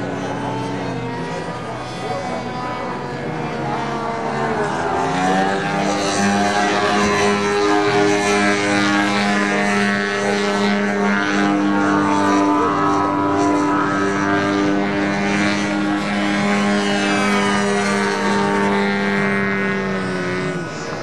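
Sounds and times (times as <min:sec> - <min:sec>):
model airplane engine: 0:00.0 - 0:21.0.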